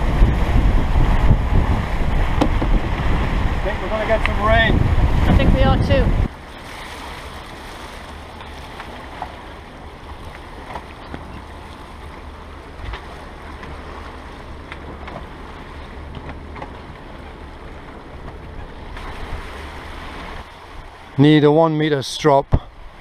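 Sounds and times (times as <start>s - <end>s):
wind buffeting microphone: 0.0s - 21.2s
water rushing along hulls: 0.0s - 23.0s.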